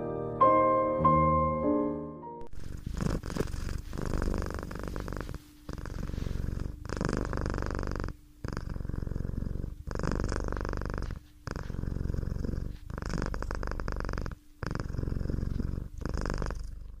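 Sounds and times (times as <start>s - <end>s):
cat purring: 2.5s - 17.0s.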